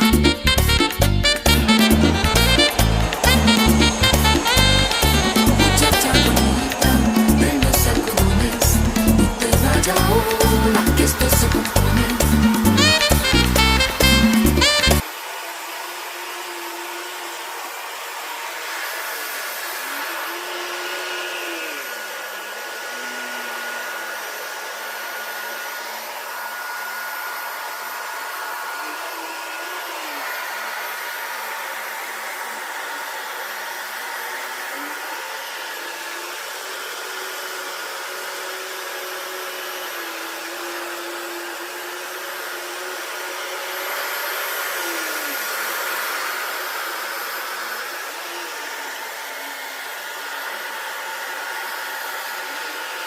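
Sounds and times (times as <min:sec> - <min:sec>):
vacuum cleaner whirring: 0:00.0 - 0:53.0.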